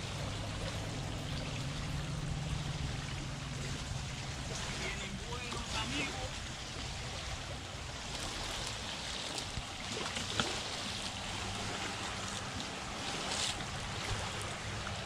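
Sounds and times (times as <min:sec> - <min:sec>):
small waves lapping on shore: 0:00.0 - 0:15.0
water splashes: 0:00.0 - 0:15.0.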